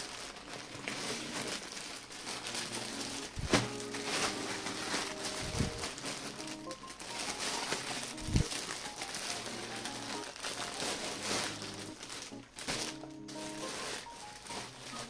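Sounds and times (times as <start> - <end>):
plastic packaging crinkling: 0.0 - 15.0
soft background music: 1.0 - 15.0.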